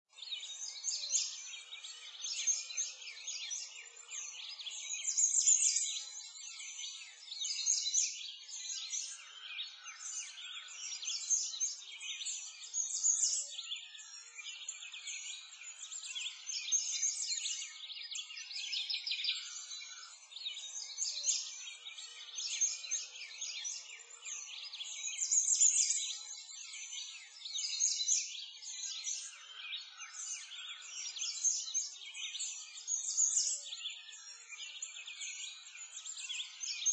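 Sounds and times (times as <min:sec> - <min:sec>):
many birds chirping: 0:00.1 - 0:36.9.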